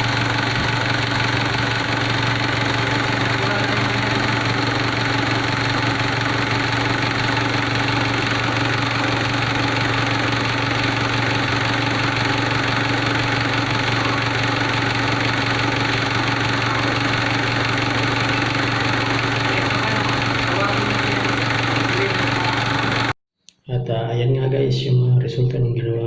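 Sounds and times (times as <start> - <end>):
diesel engine idling: 0.0 - 23.2.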